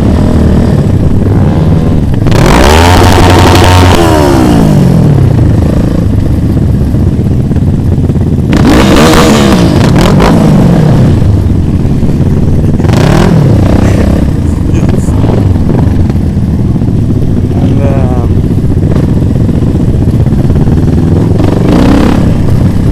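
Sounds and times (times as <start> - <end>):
motorcycle engines revving: 0.0 - 22.9.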